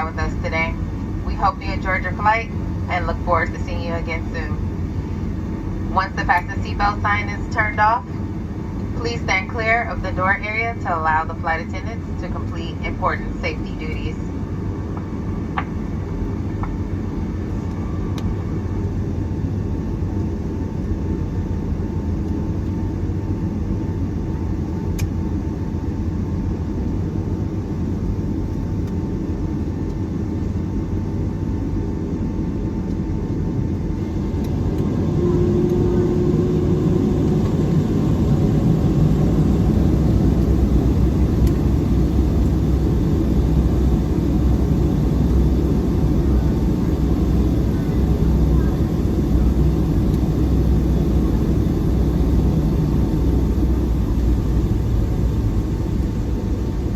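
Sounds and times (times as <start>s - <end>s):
aircraft cabin rumble: 0.0s - 56.9s.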